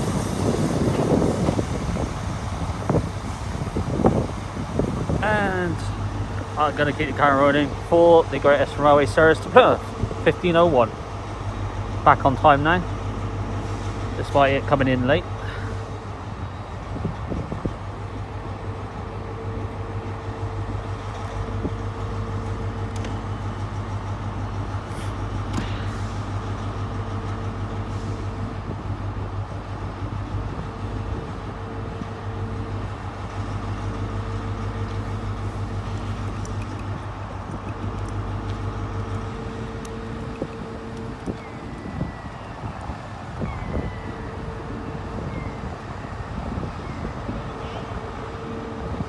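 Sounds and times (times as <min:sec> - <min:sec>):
diesel train engine idling: 0:00.0 - 0:49.0.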